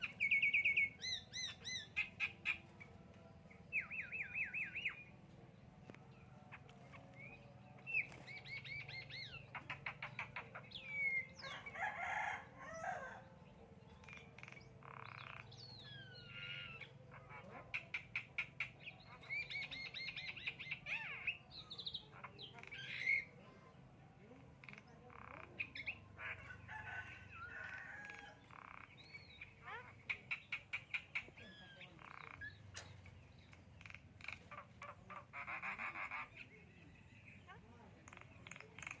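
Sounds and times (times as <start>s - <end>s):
bird singing: 0.0s - 39.0s.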